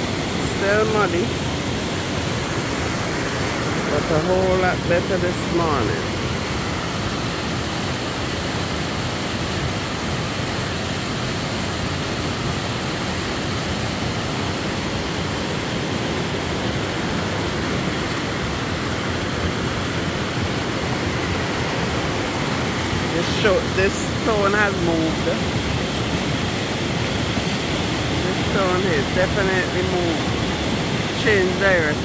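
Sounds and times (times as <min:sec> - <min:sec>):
stream rushing over boulders: 0:00.0 - 0:32.0.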